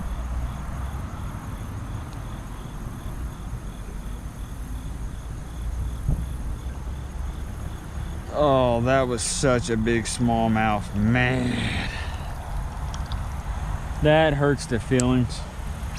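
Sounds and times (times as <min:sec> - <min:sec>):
insect chirping: 0:00.0 - 0:15.9.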